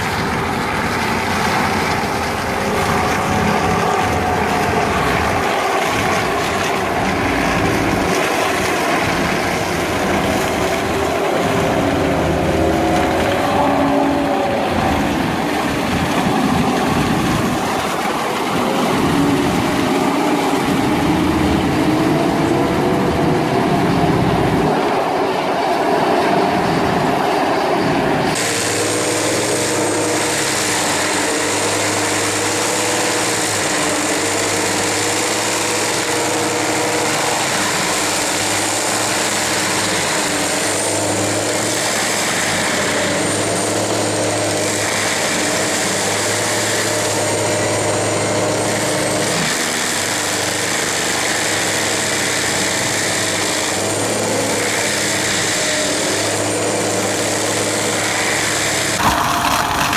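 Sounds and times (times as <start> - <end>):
cutter drum grinding brush: 0.0 - 59.9
diesel engine: 0.0 - 59.9
mulcher shredding saplings: 0.0 - 59.9.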